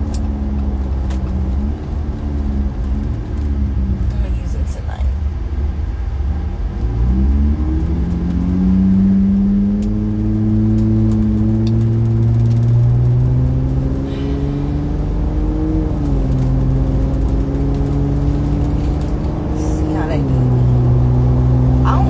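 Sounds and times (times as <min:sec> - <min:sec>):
car engine accelerating: 0:00.0 - 0:22.0
low road rumble: 0:00.0 - 0:22.0.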